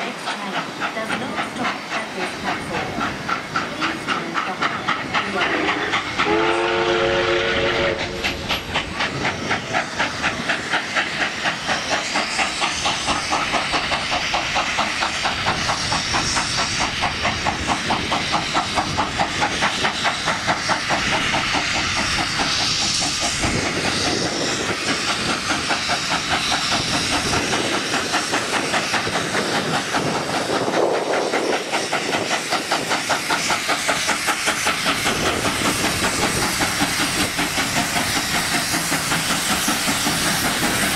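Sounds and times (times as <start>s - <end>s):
hissing steam: 0.0s - 40.9s
steam locomotive exhaust chuffs: 0.0s - 40.9s.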